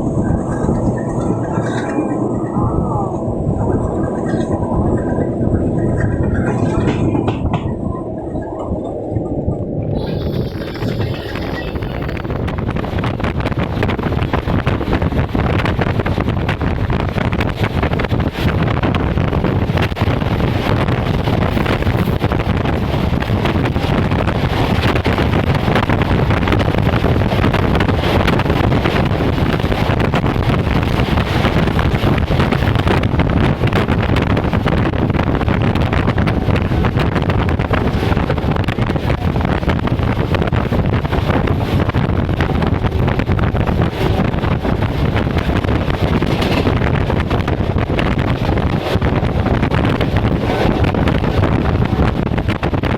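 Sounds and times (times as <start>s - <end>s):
train rumbling in motion: 0.0s - 52.9s
wind buffeting microphone: 0.0s - 52.9s.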